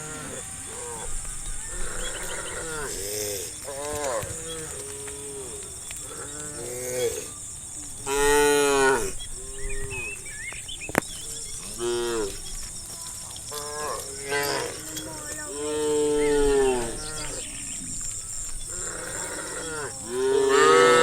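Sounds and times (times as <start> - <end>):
cows mooing: 0.0 - 7.3, 8.0 - 10.2, 11.6 - 12.5, 13.5 - 21.0.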